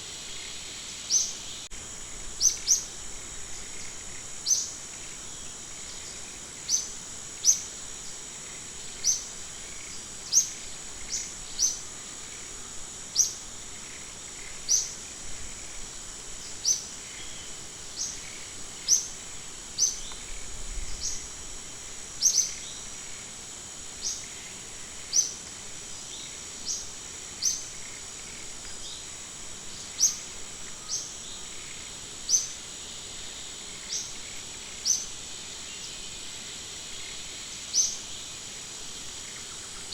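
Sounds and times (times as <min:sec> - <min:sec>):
insect hiss: 0:00.0 - 0:39.9.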